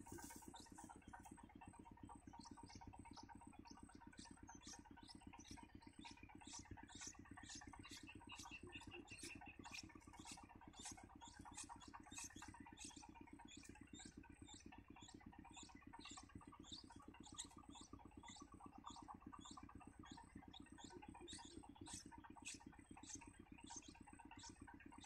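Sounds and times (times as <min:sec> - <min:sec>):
nestling birds cheeping: 0:00.0 - 0:25.0.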